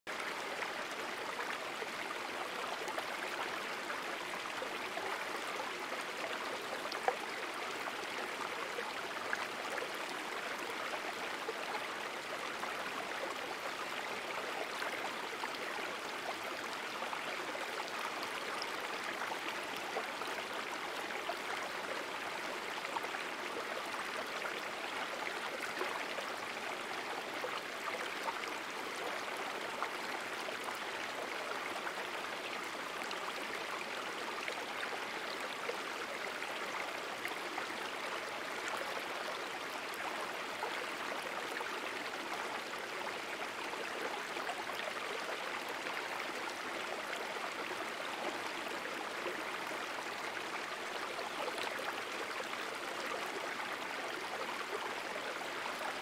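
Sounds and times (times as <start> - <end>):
stream running over rocks: 0.1 - 56.0.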